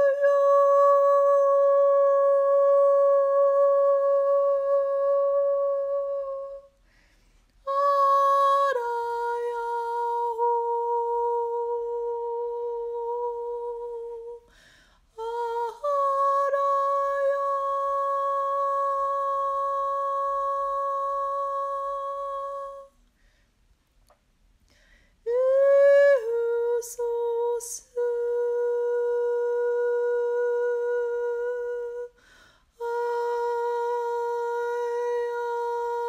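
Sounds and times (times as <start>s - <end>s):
woman singing long notes: 0.0s - 6.8s, 7.6s - 23.0s, 25.3s - 32.2s, 32.8s - 36.0s.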